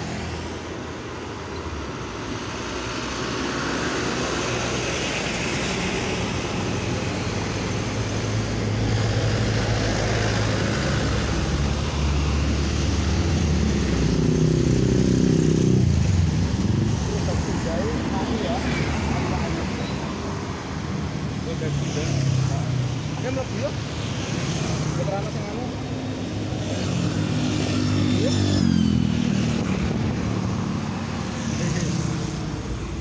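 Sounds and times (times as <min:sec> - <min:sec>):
bus passing by: 0:00.0 - 0:33.0.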